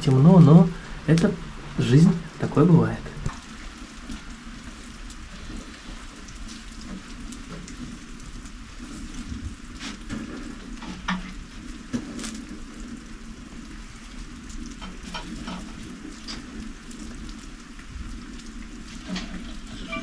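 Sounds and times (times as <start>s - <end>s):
rain hissing: 0.0s - 20.0s
wood fire crackling: 0.0s - 20.0s.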